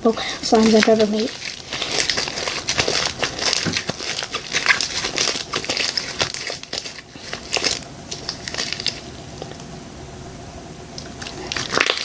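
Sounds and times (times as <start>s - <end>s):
slime crackling and popping: 0.2s - 9.7s, 11.0s - 12.0s.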